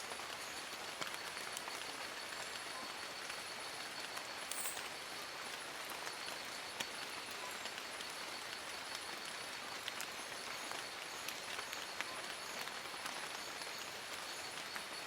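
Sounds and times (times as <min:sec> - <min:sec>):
raindrops tapping on leaves: 0:00.0 - 0:15.0
steady rain hiss: 0:00.0 - 0:15.0.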